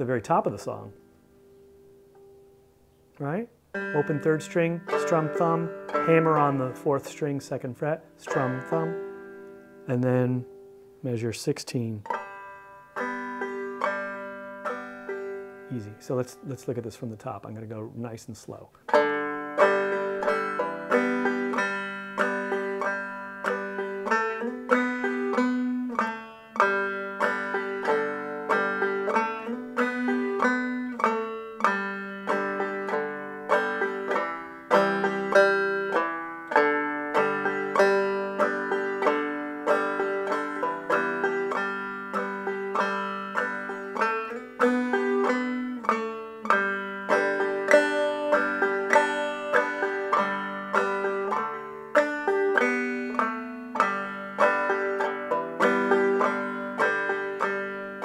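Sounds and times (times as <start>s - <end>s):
banjo played solo: 0.0s - 58.0s.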